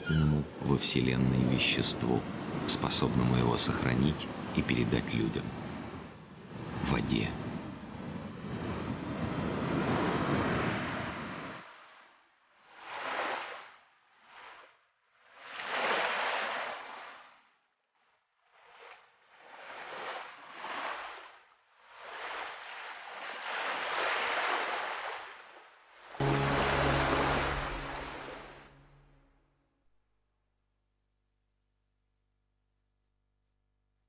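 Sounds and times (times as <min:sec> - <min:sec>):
waves breaking on shore: 0:01.5 - 0:29.3.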